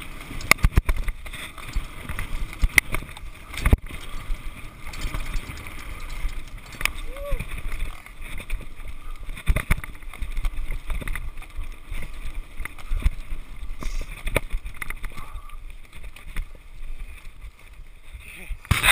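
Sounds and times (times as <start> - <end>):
bike knocking and rattling over stones: 0.0 - 18.9
bike tyres on gravel: 0.0 - 18.9.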